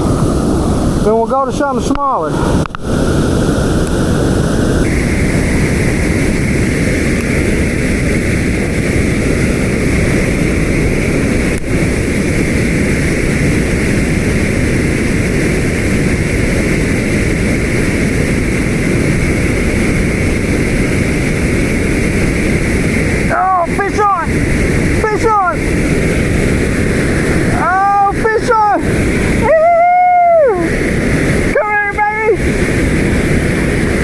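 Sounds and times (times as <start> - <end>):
water roaring over spillway: 0.0 - 34.0.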